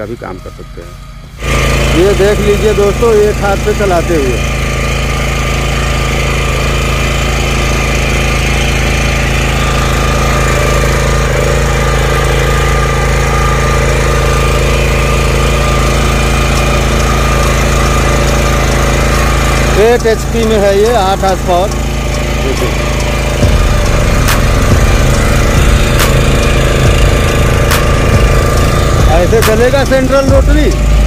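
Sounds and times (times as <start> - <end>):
power tiller engine running: 0.0 - 31.0.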